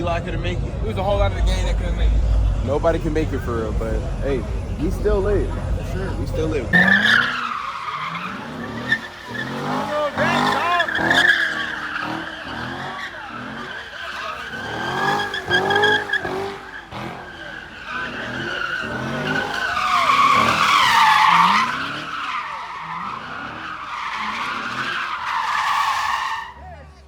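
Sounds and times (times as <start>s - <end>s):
car engine revving: 0.0s - 27.0s
tyres screeching: 0.9s - 26.8s.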